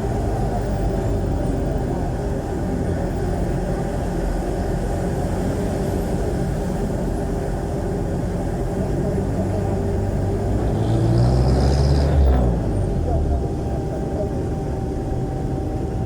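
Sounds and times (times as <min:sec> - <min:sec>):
diesel engine running loudly: 0:00.0 - 0:16.0.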